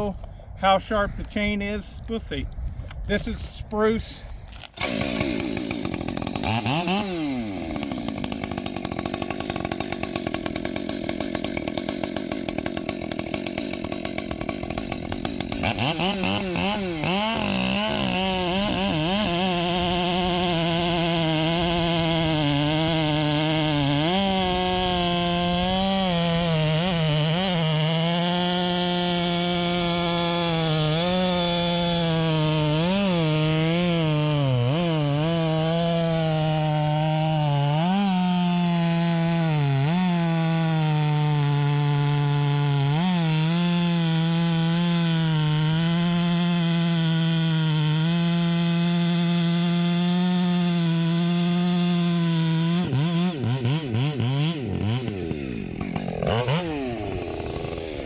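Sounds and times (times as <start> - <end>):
chainsaw cutting wood: 4.4 - 58.0
chainsaw idling and revving: 4.5 - 58.0.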